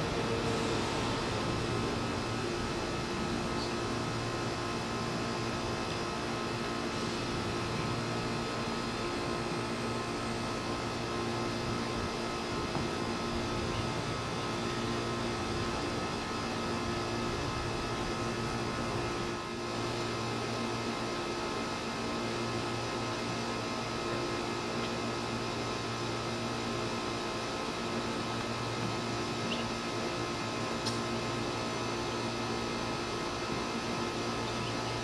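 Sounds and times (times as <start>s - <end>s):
steady machine hum with hiss: 0.0s - 35.0s.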